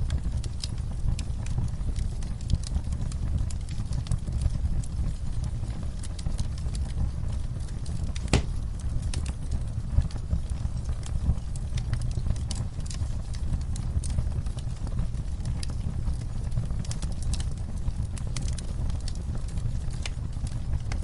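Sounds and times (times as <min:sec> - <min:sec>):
low rumble of burning: 0:00.0 - 0:21.0
wood fire crackling: 0:00.0 - 0:21.0.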